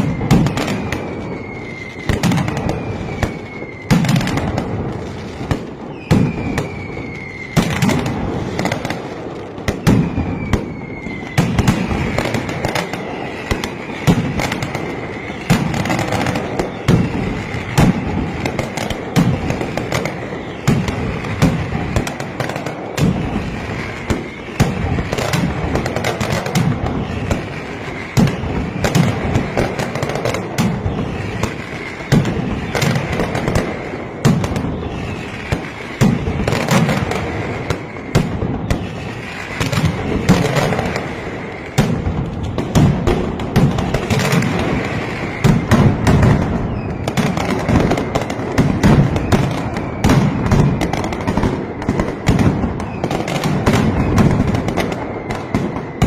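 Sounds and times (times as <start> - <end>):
firecrackers banging: 0.0 - 56.0
whistling firecrackers: 0.0 - 56.0.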